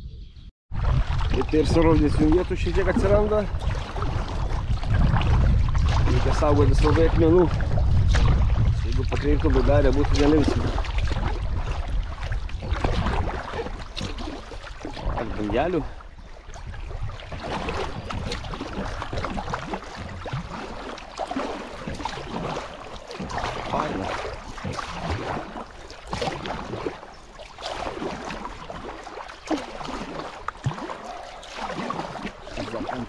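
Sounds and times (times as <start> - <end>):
water splashing around hull: 0.7 - 33.0
kayak paddle strokes: 0.8 - 6.6, 7.5 - 33.0.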